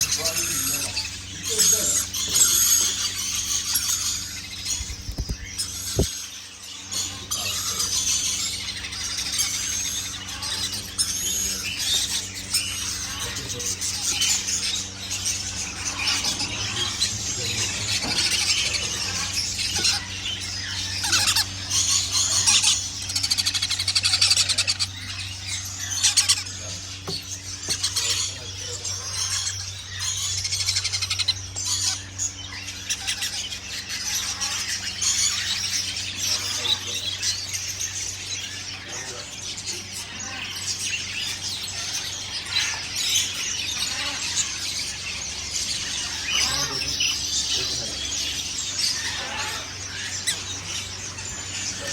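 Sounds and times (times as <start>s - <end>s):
birds chirping and twittering: 0.0s - 51.9s.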